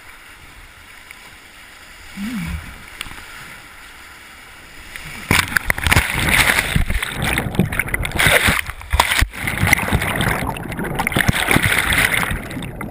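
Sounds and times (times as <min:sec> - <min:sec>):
whitewater rushing and splashing: 0:00.0 - 0:12.9.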